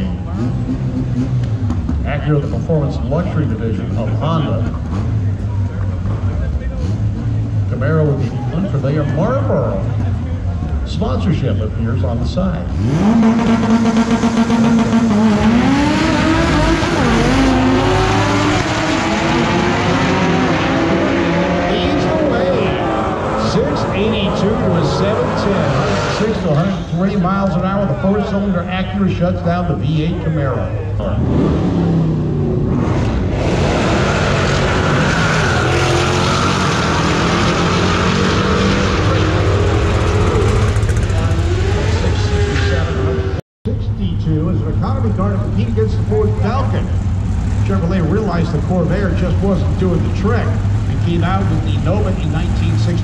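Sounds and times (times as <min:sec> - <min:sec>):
car engines revving high: 0:00.0 - 0:53.0.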